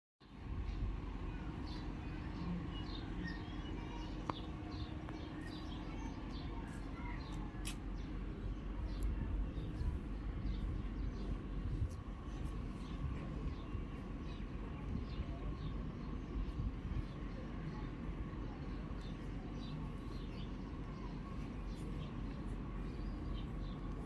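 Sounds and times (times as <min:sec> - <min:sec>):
low outdoor rumble: 0:00.2 - 0:24.0
small birds chirping: 0:00.2 - 0:24.0.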